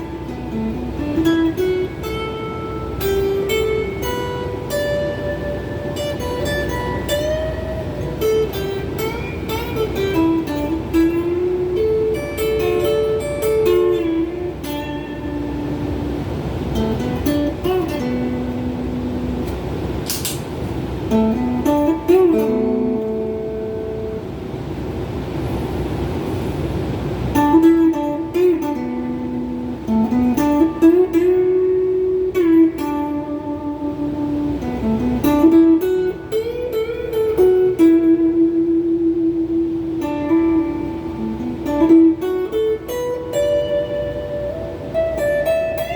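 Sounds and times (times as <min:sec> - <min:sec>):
electric guitar melody: 0:00.0 - 0:25.6, 0:26.3 - 0:45.9.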